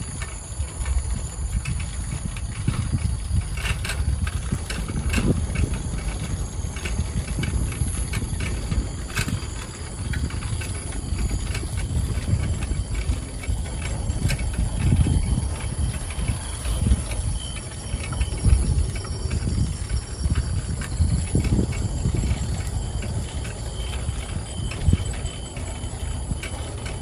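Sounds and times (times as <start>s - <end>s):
bicycle rattling: 0.0s - 27.0s
wind rumbling on microphone: 0.0s - 27.0s
night insects trilling: 4.5s - 27.0s.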